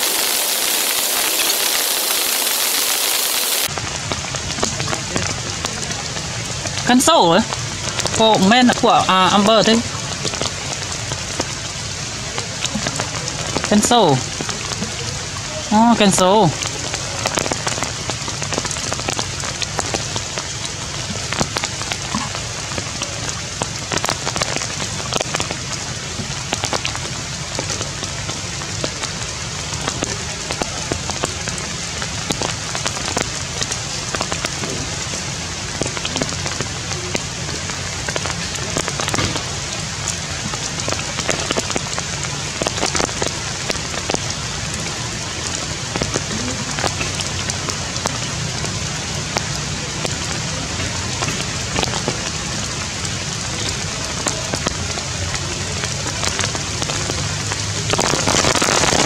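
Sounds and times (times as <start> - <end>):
rain on tree leaves: 0.0 - 59.0
sharp drips: 0.0 - 59.0.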